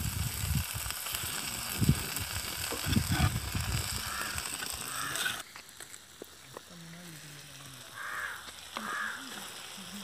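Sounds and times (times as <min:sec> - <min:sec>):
frying sizzle: 0:00.0 - 0:10.0.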